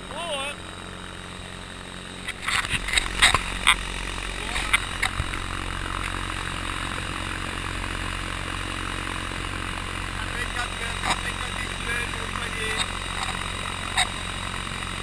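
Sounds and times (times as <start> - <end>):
motor and propeller humming: 0.0 - 15.0.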